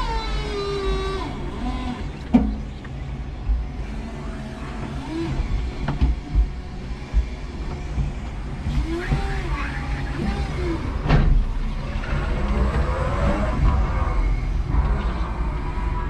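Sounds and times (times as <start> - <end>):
whining tones sliding in pitch: 0.0 - 2.3, 3.1 - 16.0
clunks: 0.0 - 16.0
forklift motor hum: 0.0 - 16.0.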